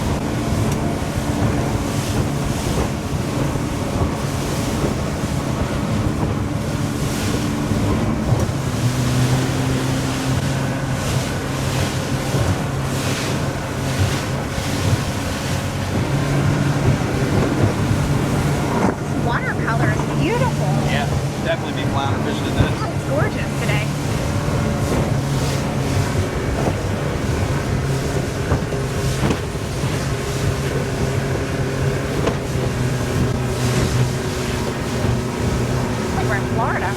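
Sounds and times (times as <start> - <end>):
hull slapping on waves: 0.0 - 36.9
motorboat engine running: 0.0 - 36.9
water noise from moving boat: 0.0 - 36.9
wind on microphone: 0.0 - 36.9.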